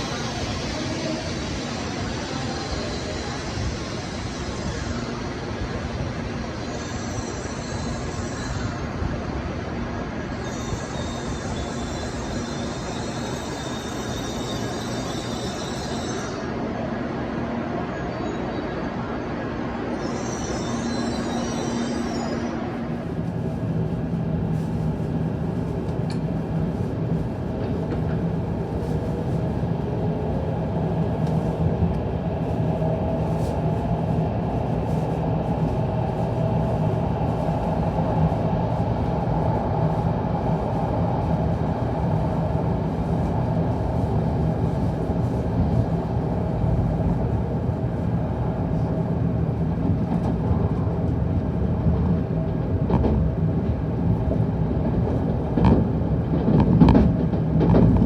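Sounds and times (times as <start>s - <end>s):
train rumble and rush: 0.0s - 58.0s.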